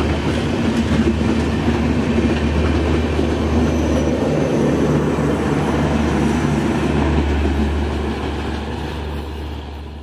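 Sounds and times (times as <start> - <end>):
train coaches rolling on rails: 0.0 - 10.0.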